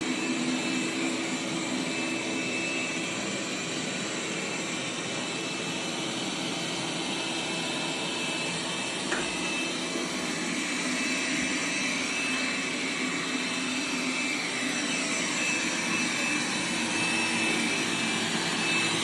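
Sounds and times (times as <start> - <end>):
robot vacuum cleaner whirring: 0.0 - 19.0.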